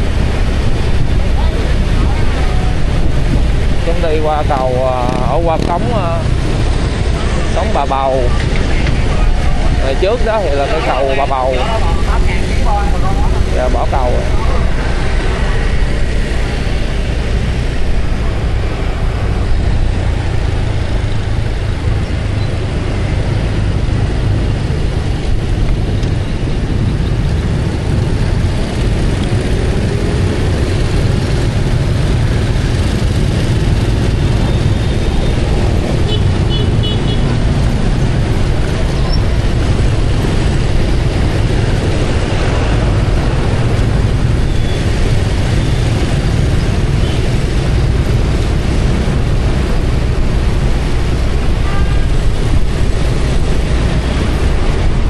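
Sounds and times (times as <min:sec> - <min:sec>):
motorbike traffic noise: 0:00.0 - 0:55.0.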